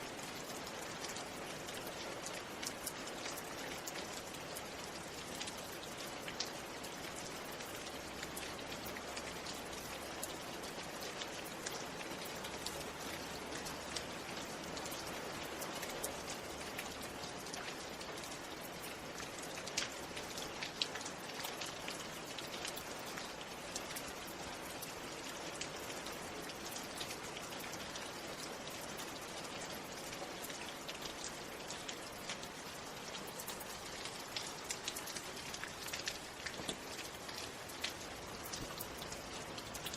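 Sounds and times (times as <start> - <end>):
raindrops ticking: 0.0 - 39.9
steady rain falling: 0.0 - 39.9.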